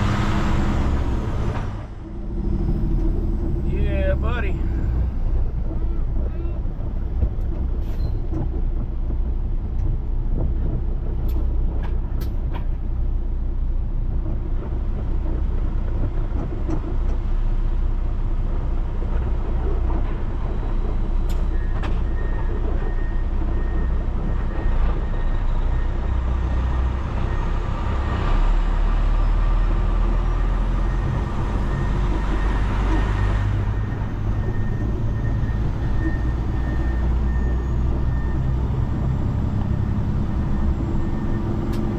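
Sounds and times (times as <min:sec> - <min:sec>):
diesel truck engine drone: 0:00.0 - 0:41.9
road noise: 0:00.0 - 0:41.9.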